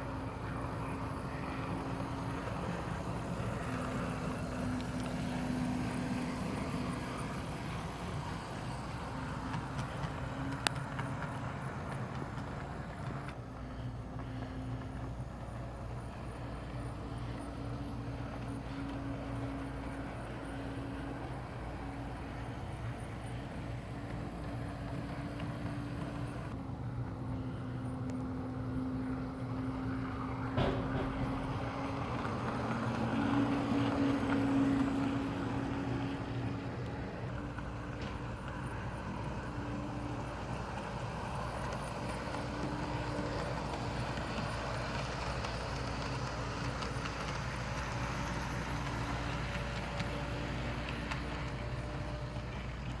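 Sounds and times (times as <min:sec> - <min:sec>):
model train mechanical hum: 0:00.0 - 0:53.0.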